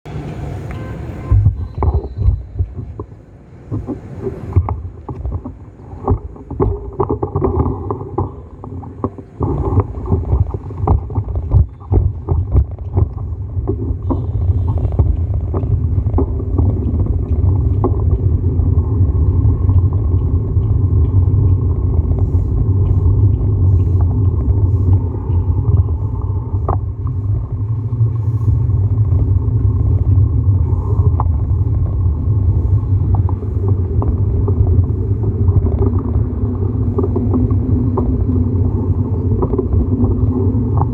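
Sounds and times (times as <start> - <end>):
bicycle ride rumble: 0.0 - 40.9
wind buffeting microphone: 0.1 - 40.9.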